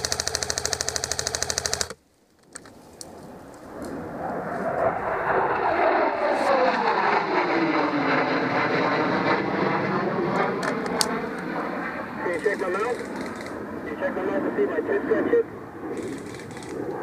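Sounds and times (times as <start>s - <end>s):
low-flying aircraft drone: 0.0s - 17.0s.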